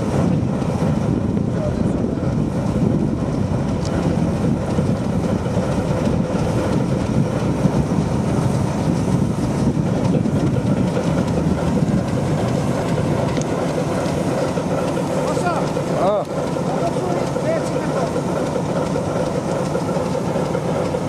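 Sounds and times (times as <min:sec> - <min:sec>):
locomotive diesel engine running: 0:00.0 - 0:21.0.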